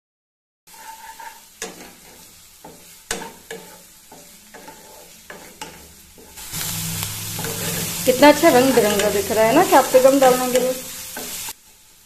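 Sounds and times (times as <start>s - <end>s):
spatula scraping pan: 0.7s - 11.6s
vegetables sizzling in oil: 0.7s - 12.0s.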